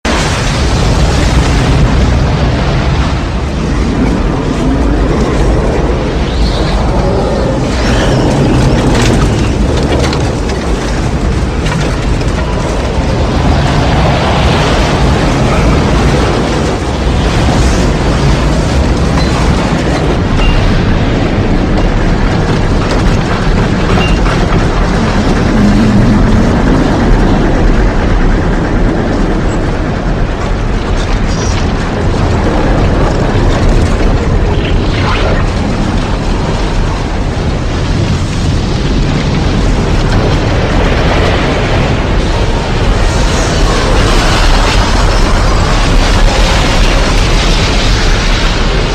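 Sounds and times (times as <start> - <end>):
howling wind rumble: 0.0 - 48.9
scattered crackles: 0.0 - 48.9.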